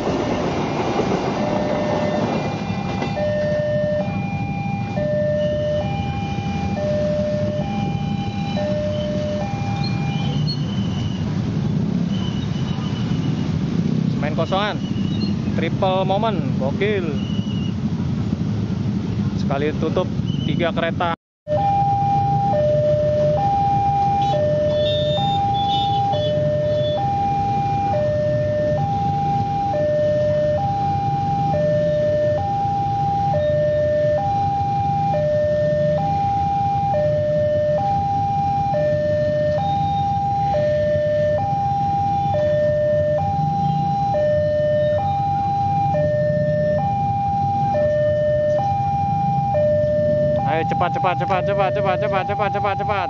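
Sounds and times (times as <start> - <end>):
two-tone crossing alarm: 0.0 - 13.6, 21.5 - 53.0.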